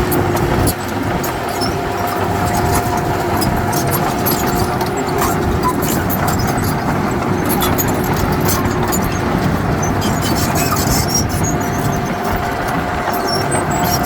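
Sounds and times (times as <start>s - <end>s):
heavy diesel machinery rumbling: 0.0s - 14.0s.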